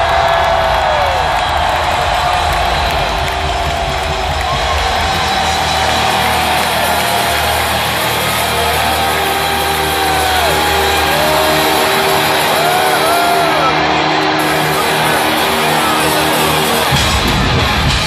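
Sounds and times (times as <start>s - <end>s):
drums: 0.0s - 18.0s
distorted electric guitars: 1.8s - 18.0s.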